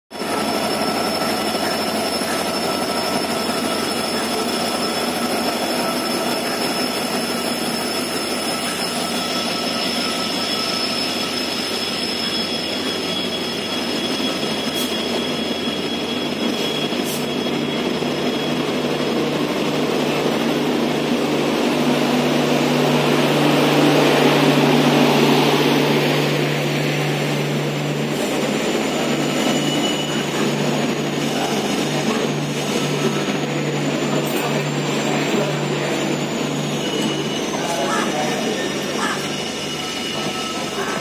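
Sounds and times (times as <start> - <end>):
diesel locomotive engine running: 0.1 - 41.0.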